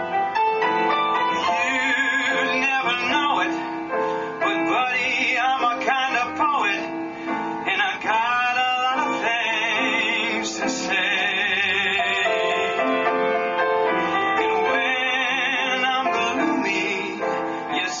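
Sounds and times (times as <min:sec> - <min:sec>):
instrumental accompaniment: 0:00.0 - 0:18.0
person singing with vibrato: 0:00.8 - 0:13.3, 0:14.0 - 0:18.0.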